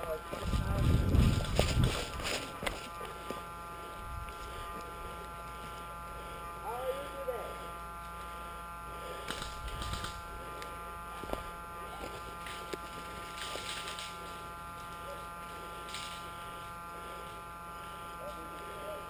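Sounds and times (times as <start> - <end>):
buzz of held tones: 0.0 - 19.0.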